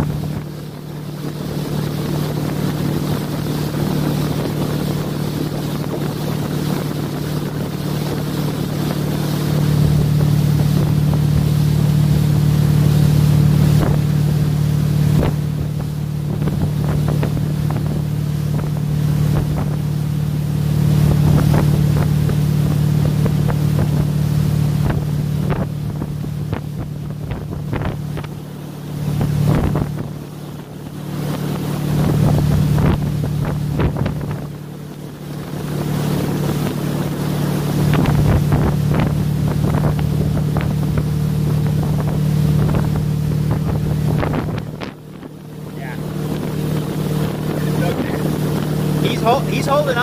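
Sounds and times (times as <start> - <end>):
boat motor droning: 0.0 - 50.0
wake rushing and splashing: 0.0 - 50.0.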